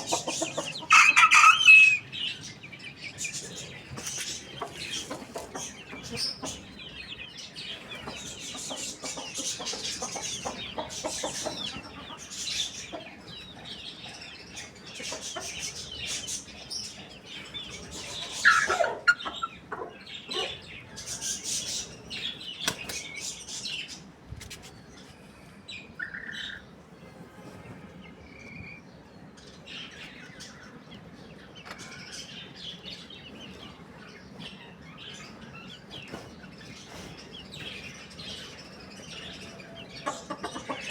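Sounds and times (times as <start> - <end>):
chickens clucking: 0.0 - 40.9
small birds chirping: 0.0 - 40.9.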